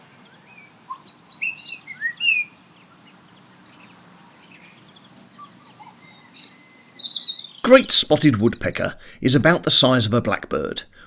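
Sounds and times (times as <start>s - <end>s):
songbird singing: 0.0s - 10.7s.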